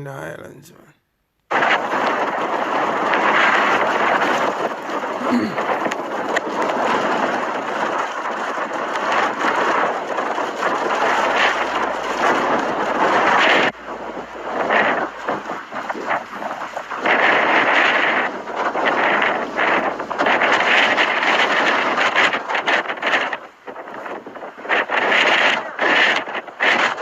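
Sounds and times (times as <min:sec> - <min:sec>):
blizzard wind blowing hard: 0:01.5 - 0:27.0.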